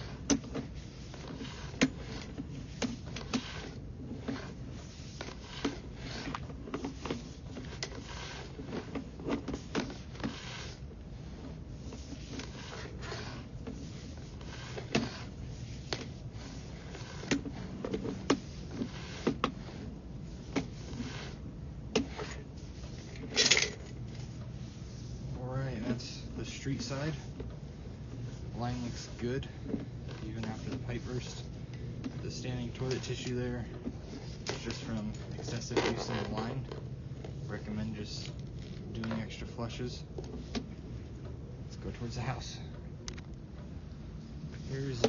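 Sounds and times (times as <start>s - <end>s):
camera knocking and scraping in pipe: 0.0s - 42.1s
steady low hum: 0.0s - 45.0s.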